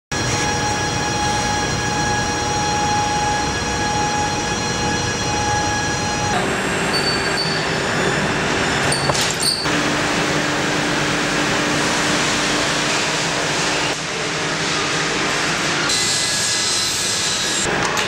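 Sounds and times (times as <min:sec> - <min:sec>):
high machine whine: 0:00.1 - 0:17.8
machinery rushing noise: 0:00.2 - 0:16.5.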